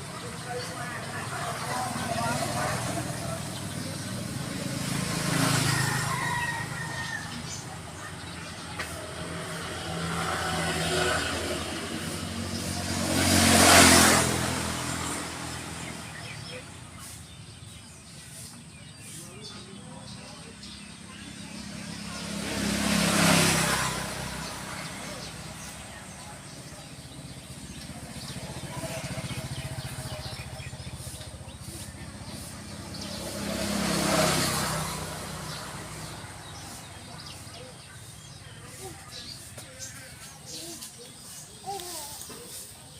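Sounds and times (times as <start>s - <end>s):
motor vehicle passing by: 0.0s - 42.9s.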